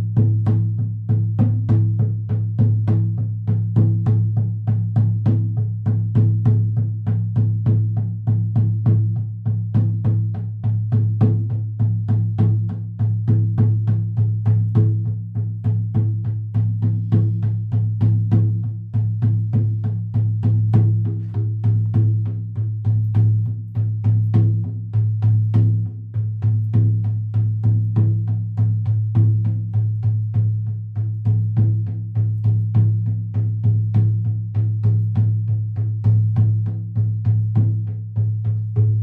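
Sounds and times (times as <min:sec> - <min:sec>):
frame drum beating: 0:00.0 - 0:39.0.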